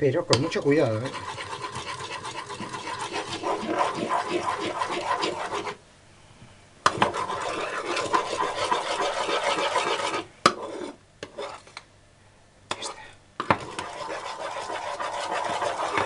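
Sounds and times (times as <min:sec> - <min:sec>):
spoon scraping cooking pan: 0:00.3 - 0:05.8, 0:06.9 - 0:11.8, 0:13.4 - 0:16.0.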